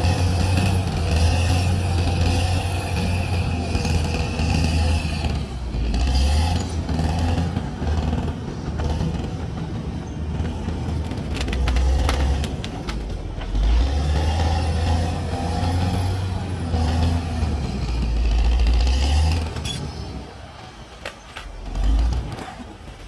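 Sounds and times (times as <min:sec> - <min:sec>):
bulldozer diesel engine rumbling: 0:00.0 - 0:23.0.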